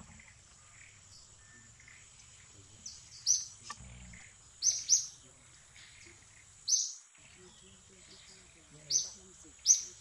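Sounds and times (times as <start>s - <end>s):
faint forest background: 0.0s - 10.0s.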